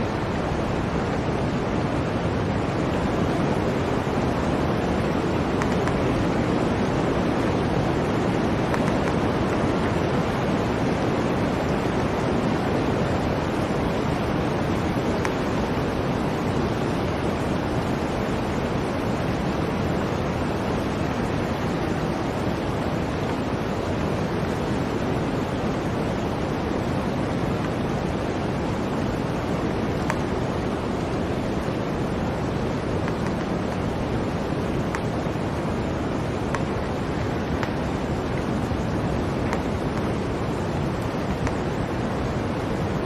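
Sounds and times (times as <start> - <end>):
blizzard wind blowing: 0.0 - 43.0.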